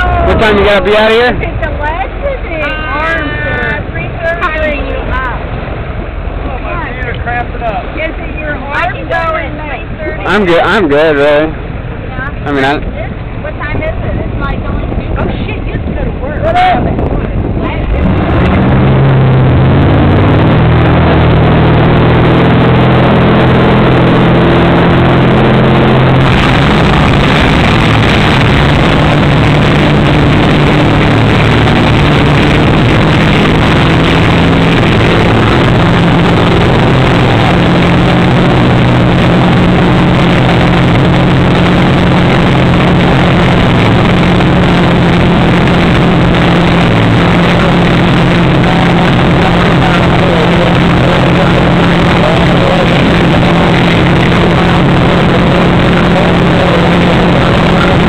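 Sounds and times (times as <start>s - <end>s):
motorboat engine running: 0.0s - 58.0s
water rushing in boat wake: 0.0s - 58.0s.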